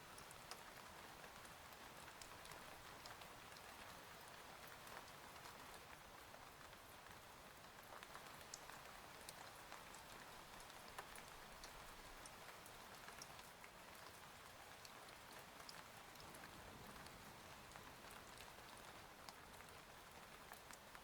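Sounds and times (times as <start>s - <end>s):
rain on window: 0.1s - 21.0s.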